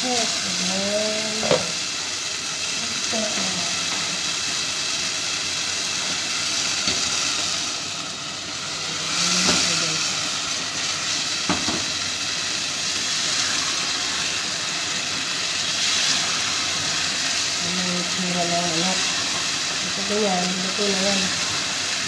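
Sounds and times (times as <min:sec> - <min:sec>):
chicken sizzling in a pot: 0:00.0 - 0:22.0.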